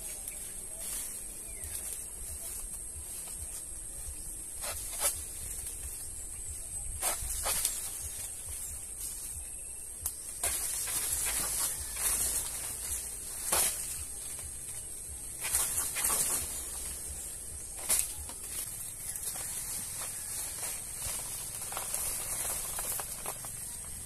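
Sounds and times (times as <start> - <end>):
banana leaves rustling: 0.0 - 24.0
steady high-pitched hiss: 0.0 - 24.0.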